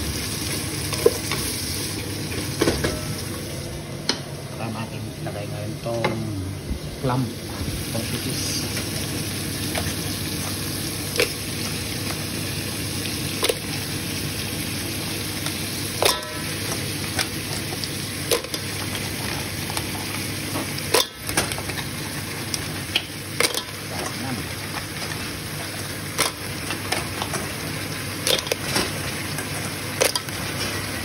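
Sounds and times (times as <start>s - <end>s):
onions and tomatoes sizzling: 0.0s - 31.0s.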